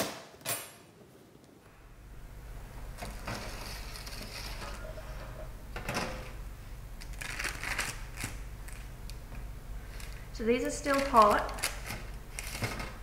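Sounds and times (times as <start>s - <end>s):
steady low hum: 1.5s - 13.0s.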